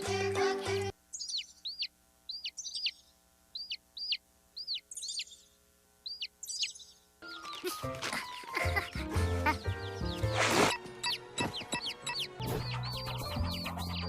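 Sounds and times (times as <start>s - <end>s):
baby chick peeping: 0.0s - 14.0s.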